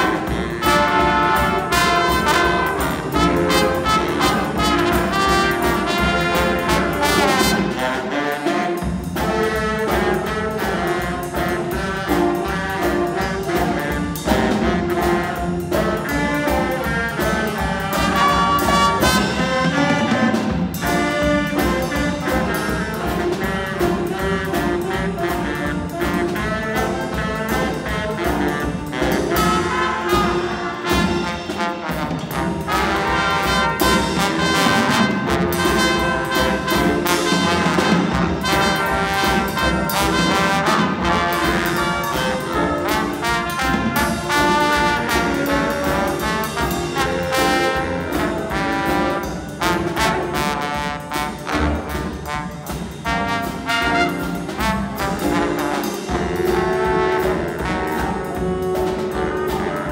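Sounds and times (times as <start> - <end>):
bass guitar: 0.0 - 59.9
drum kit beat: 0.0 - 59.9
jazz horns playing: 0.0 - 59.9.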